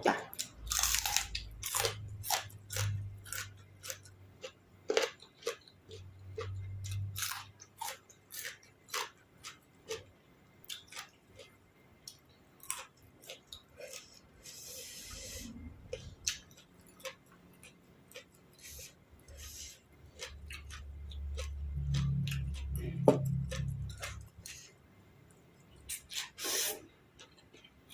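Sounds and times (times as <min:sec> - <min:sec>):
chewing crisp vegetables: 0:00.1 - 0:24.7, 0:25.7 - 0:27.9.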